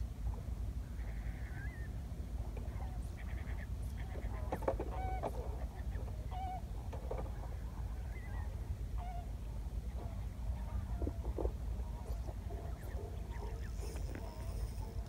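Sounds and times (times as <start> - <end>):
bird calls: 0.8 - 2.0, 2.6 - 15.0.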